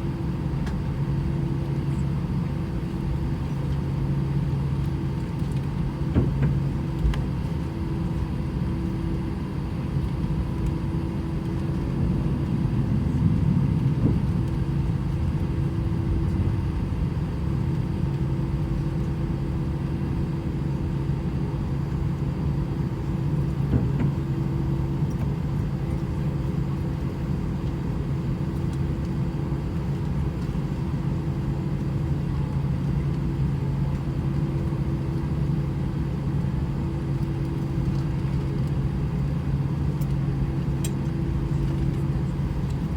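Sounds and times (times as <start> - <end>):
jet engine cabin hum: 0.1 - 42.9.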